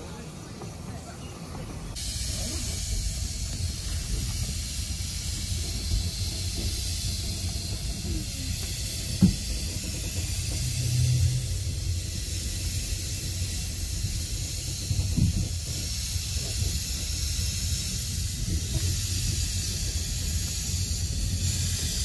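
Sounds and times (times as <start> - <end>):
low rumble: 1.7 - 21.6
steam hissing: 1.7 - 22.0.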